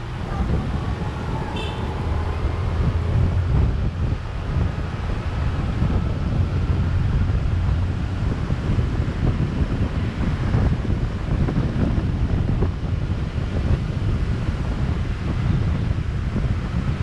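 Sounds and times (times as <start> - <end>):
street traffic: 0.0 - 17.0
wind buffeting microphone: 0.0 - 17.0.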